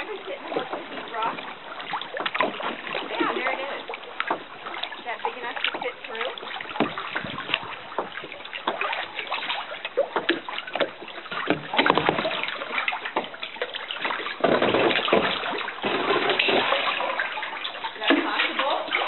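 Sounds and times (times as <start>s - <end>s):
paddle splashes and drips: 0.0s - 19.0s.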